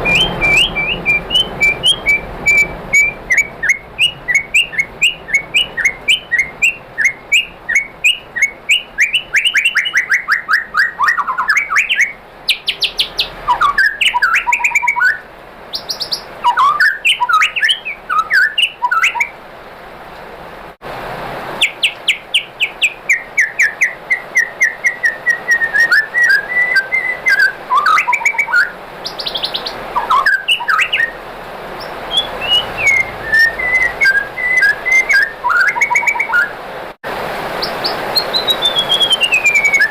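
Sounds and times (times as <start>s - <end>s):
bird singing chirps and trills: 0.0s - 19.4s, 21.6s - 36.6s, 37.5s - 39.9s.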